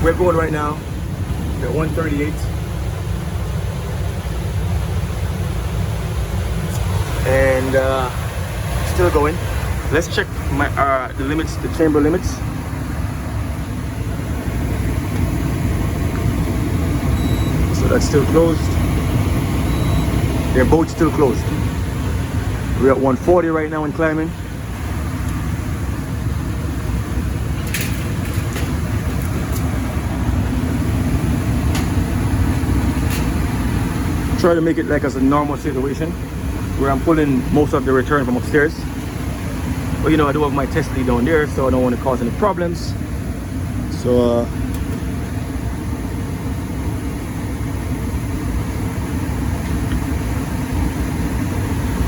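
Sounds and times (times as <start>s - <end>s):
furnace blower rumbling: 0.0s - 52.0s.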